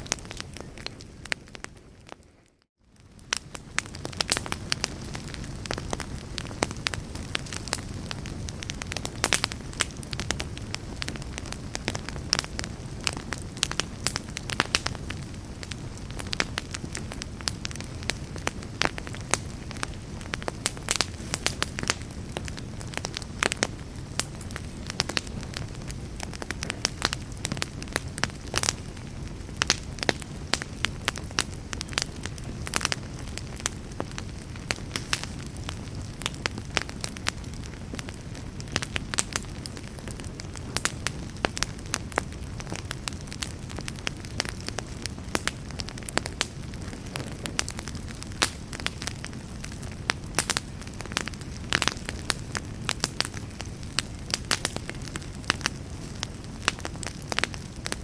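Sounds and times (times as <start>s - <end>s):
low rush of flames: 0.0s - 58.0s
wood crackling and popping: 0.0s - 58.0s.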